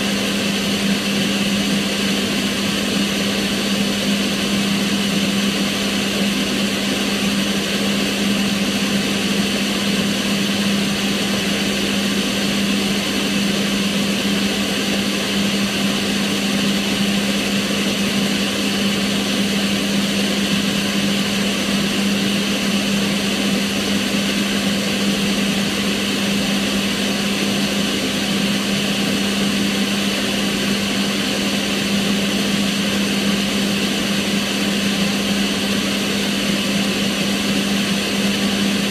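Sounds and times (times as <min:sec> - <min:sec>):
extractor fan running: 0:00.0 - 0:38.9.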